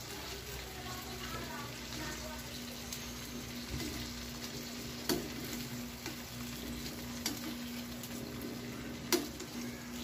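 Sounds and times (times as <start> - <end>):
shrimp sizzling in oil: 0.0 - 10.0.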